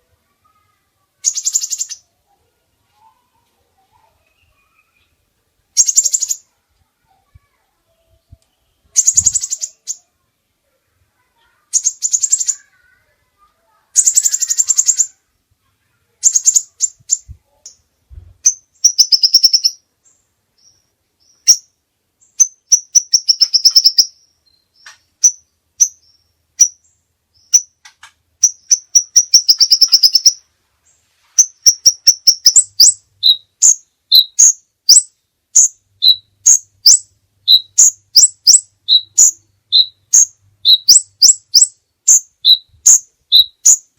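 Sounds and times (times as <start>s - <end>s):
songbird singing: 0.0s - 43.9s.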